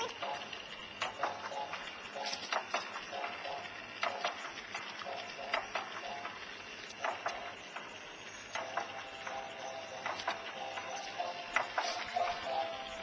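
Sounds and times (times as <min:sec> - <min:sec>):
swing creaking and clicking: 0:00.0 - 0:13.0.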